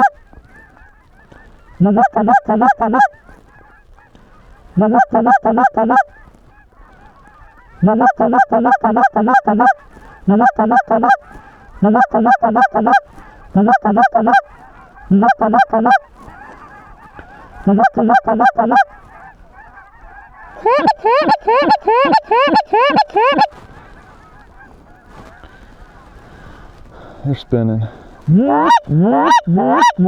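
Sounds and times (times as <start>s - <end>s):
goose call honking: 0.0s - 30.0s.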